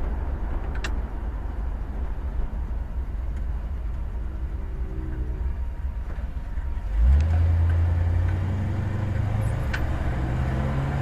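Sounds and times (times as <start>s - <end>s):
car exhaust rumble: 0.0s - 11.0s.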